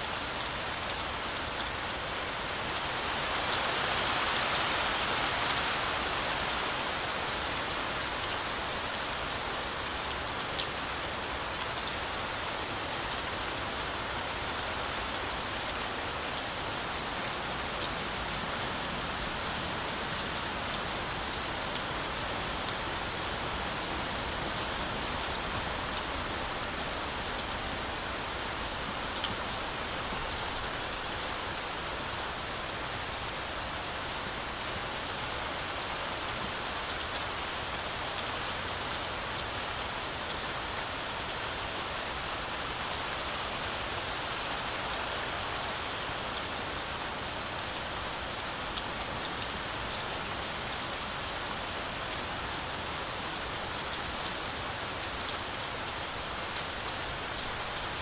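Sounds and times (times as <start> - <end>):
heavy rain through trees: 0.0 - 58.0.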